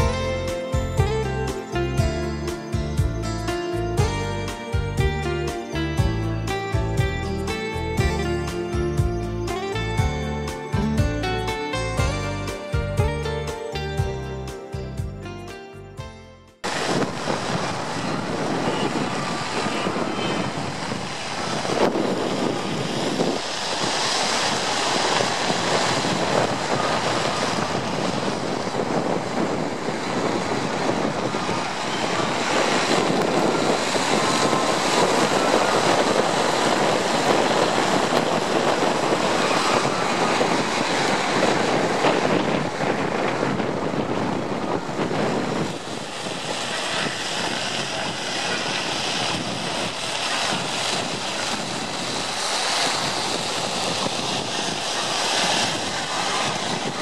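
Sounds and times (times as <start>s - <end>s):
wind rushing over microphone: 0.0s - 15.2s, 16.6s - 57.0s.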